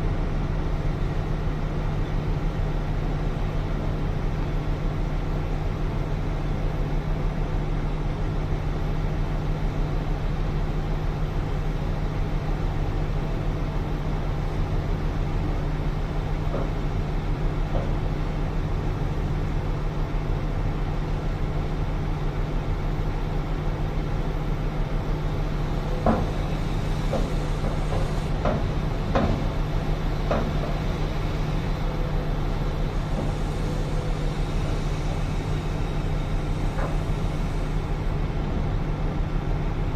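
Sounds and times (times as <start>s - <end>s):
heavy diesel machinery humming: 0.0s - 39.9s.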